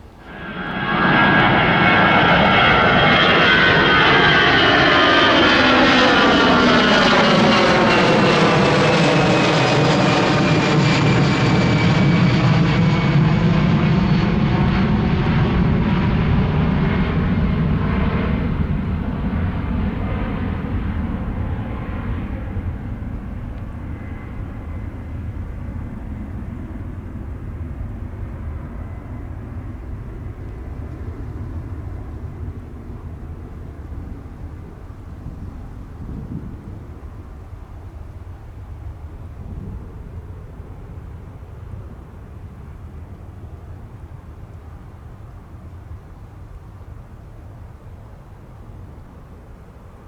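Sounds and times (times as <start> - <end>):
jet airliner passing: 0.0 - 50.0.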